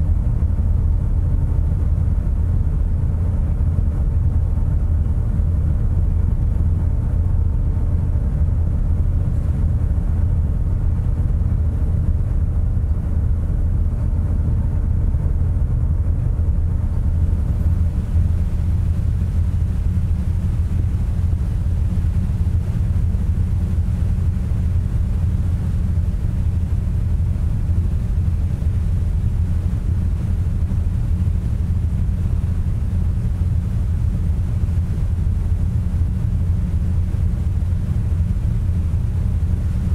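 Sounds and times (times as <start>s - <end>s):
faint humming tones: 0.0s - 39.9s.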